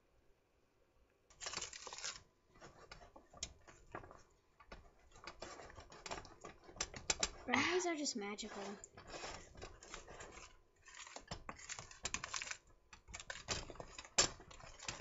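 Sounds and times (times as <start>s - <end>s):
utensil stirring batter in bowl: 1.3s - 15.0s.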